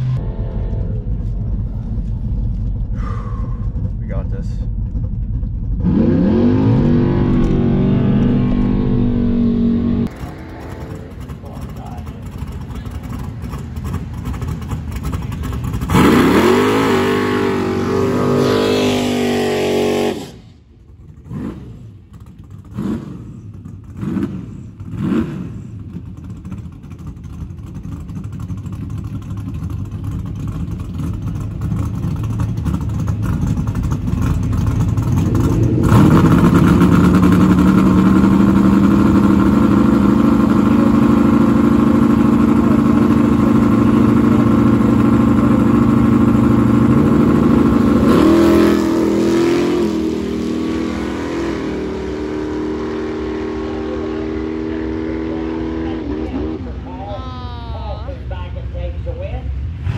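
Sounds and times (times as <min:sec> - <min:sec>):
car engine revving: 0:00.0 - 0:57.0
engine held at high revs: 0:05.2 - 0:57.0.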